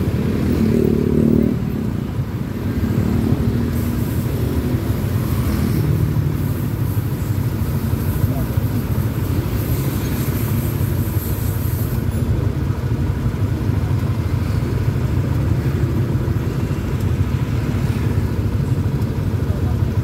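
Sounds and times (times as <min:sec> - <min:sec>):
motorcycle engines idling: 0:00.0 - 0:20.0.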